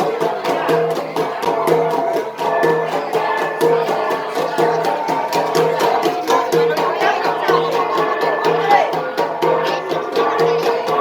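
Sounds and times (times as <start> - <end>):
gong ensemble interlocking beat: 0.0 - 11.0.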